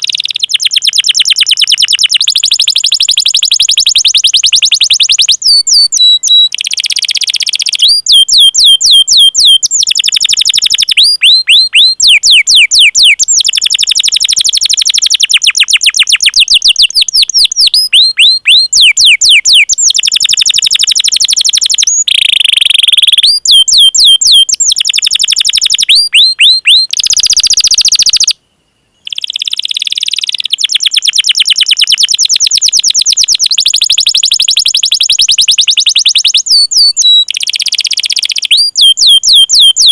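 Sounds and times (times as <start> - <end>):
canary singing: 0.0 - 28.4, 29.0 - 39.9.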